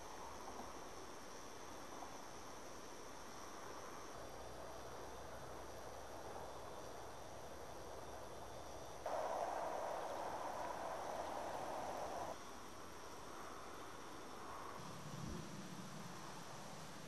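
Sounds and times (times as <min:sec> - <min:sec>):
faint high insect chirring: 0:00.0 - 0:17.0.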